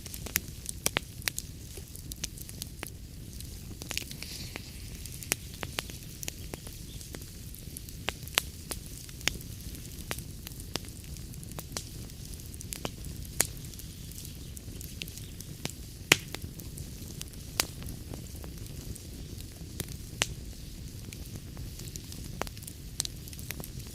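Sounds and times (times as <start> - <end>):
wood fire crackling in fireplace: 0.0 - 23.9.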